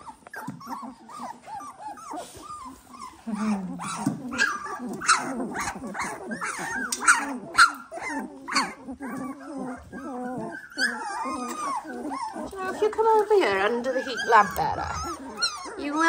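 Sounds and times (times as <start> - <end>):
puppies crying and squealing: 0.0 - 16.0.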